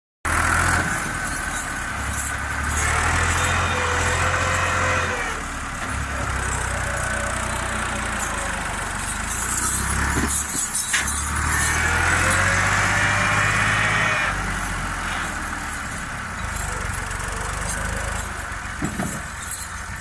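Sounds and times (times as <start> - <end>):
tractor diesel engine running: 0.2 - 20.0.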